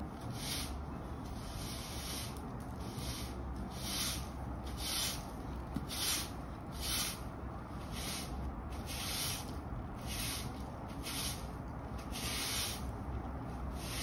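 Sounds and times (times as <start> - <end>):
broom sweeping concrete: 0.0 - 14.0.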